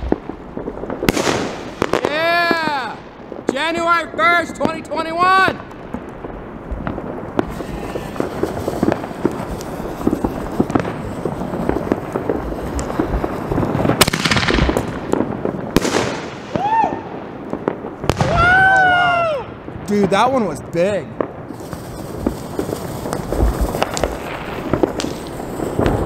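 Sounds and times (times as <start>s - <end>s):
small firework pops: 0.0s - 3.0s, 5.5s - 19.0s, 21.2s - 26.0s
loud firework bangs: 0.0s - 26.0s.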